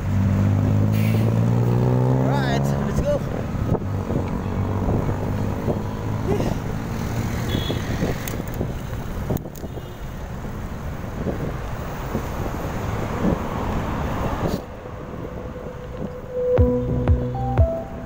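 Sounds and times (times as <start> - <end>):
road traffic noise: 0.0 - 18.0
wind rushing over microphone: 0.1 - 16.6.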